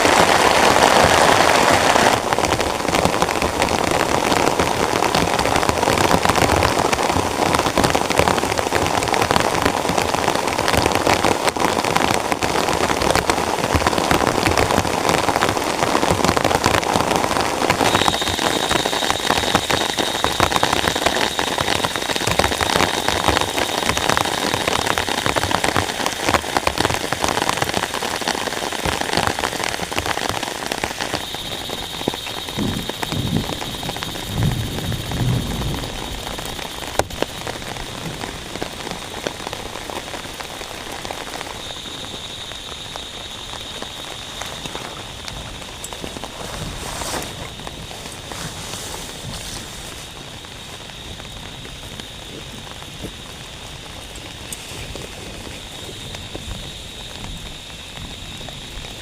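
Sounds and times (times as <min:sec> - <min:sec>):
heavy rain on tent: 0:00.0 - 0:59.0.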